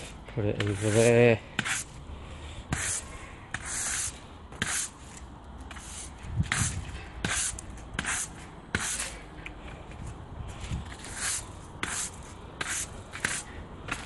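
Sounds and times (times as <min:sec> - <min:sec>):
broom sweeping concrete: 0:00.0 - 0:02.0, 0:02.6 - 0:09.3, 0:10.4 - 0:14.0.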